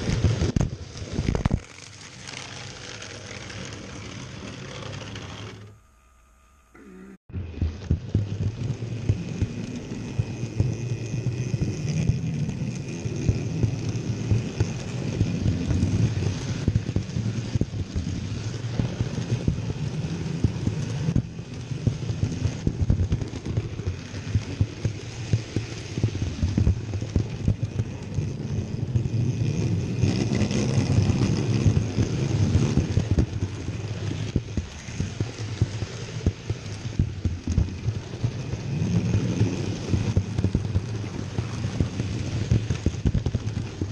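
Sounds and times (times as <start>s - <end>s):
thin motor whine: 0.8s - 36.8s
train wheels clattering over rails: 7.5s - 43.9s.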